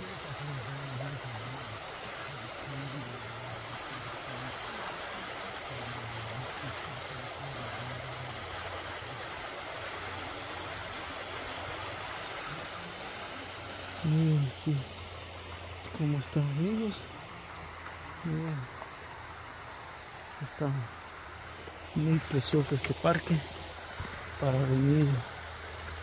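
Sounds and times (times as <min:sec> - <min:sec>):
creek water flowing over rocks: 0:00.0 - 0:26.0.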